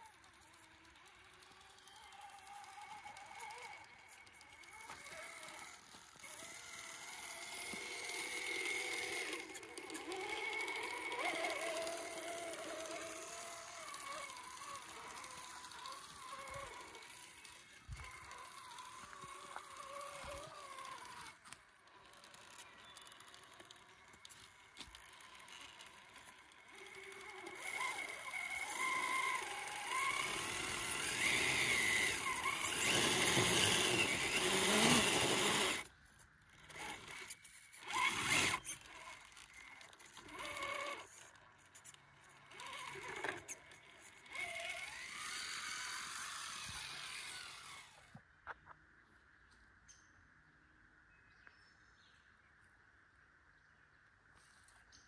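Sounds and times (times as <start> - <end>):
electric motor and gears whining: 0.0 - 48.3.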